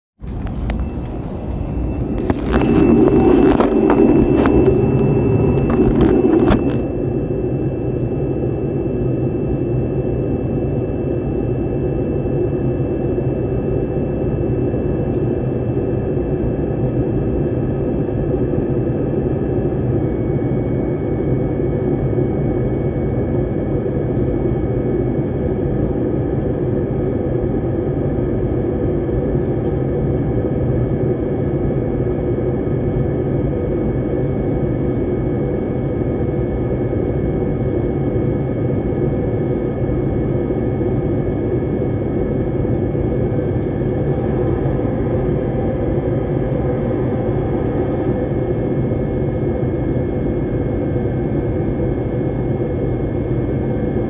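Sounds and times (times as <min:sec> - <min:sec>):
jet cabin engine drone: 0:00.2 - 0:54.0
thin high whine: 0:00.2 - 0:54.0.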